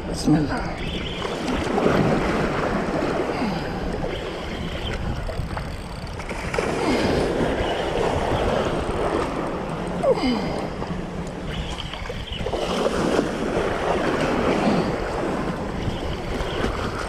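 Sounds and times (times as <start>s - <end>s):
wind on microphone: 0.0s - 17.0s
sea waves splashing against rocks: 0.9s - 5.1s, 6.2s - 17.0s.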